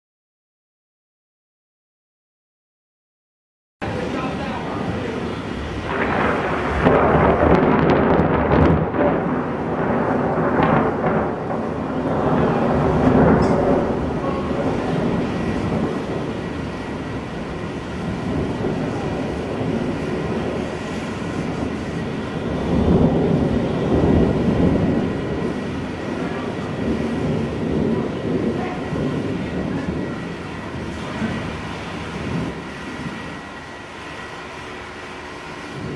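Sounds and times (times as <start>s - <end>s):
thunder rumbling: 3.8s - 35.9s.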